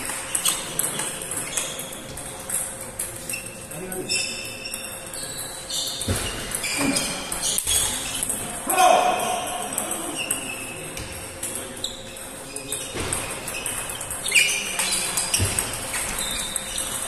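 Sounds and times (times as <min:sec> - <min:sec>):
ball strikes from other tables: 0:00.0 - 0:11.8, 0:12.6 - 0:17.0
table tennis ball clicking and bouncing: 0:00.0 - 0:17.0.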